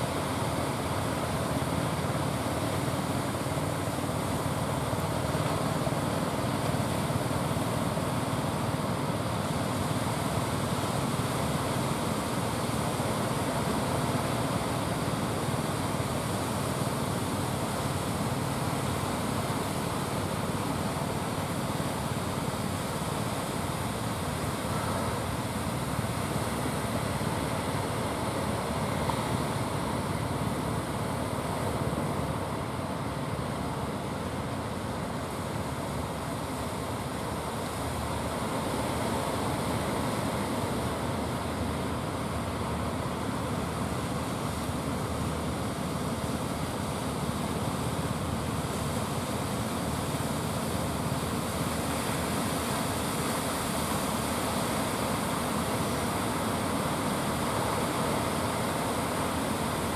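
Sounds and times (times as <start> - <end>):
low boat engine drone: 0.0 - 59.9
surf breaking on beach: 0.0 - 59.9.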